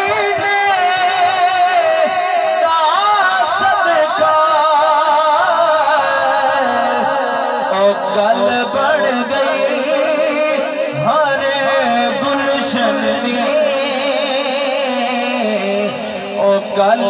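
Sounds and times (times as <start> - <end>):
man singing over loudspeaker: 0.0 - 17.0.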